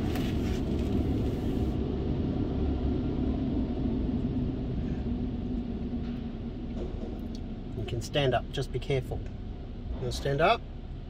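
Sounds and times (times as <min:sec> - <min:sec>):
car wash machinery rumble: 0:00.0 - 0:11.0
muffled car wash water spray: 0:00.0 - 0:11.0.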